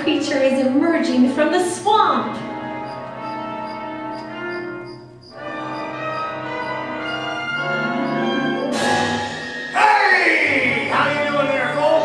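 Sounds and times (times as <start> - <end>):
orchestral music with held notes: 0.0 - 12.0.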